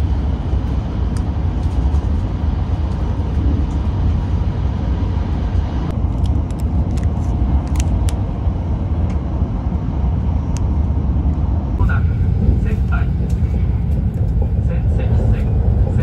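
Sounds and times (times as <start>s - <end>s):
train rumble inside cabin: 0.0s - 16.0s.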